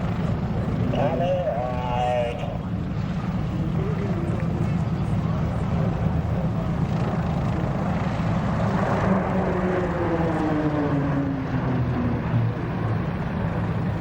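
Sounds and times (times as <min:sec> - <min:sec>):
turboprop aircraft flying past: 0:00.0 - 0:14.0.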